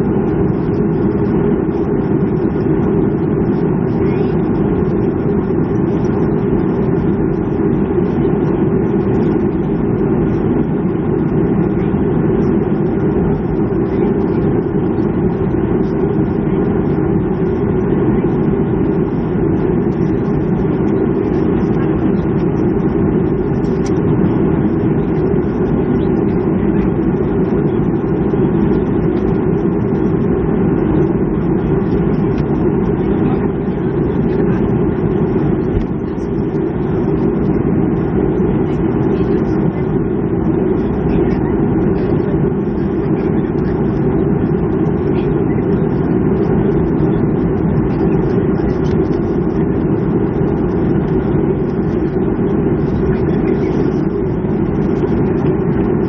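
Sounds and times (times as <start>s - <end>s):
aircraft cabin low rumble: 0.0s - 56.0s.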